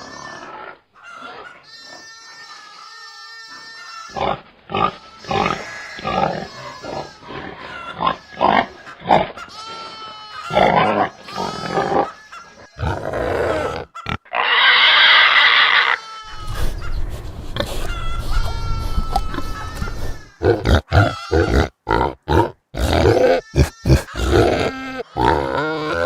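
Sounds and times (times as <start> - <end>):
pig harsh call: 0.0 - 26.0
pigs grunting: 4.1 - 26.0.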